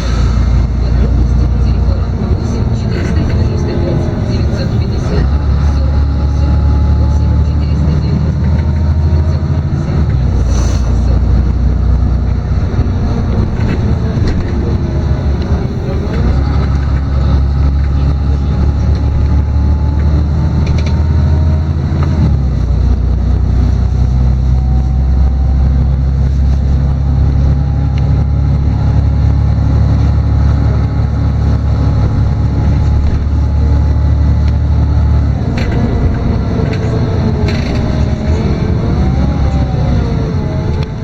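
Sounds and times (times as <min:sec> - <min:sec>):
bus diesel engine droning: 0:00.0 - 0:41.0
drivetrain whine: 0:00.0 - 0:41.0.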